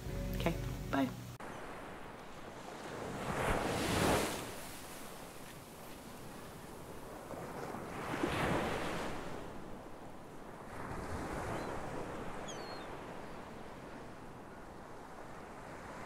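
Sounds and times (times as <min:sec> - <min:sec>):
ocean surf washing up beach: 0:01.0 - 0:16.0.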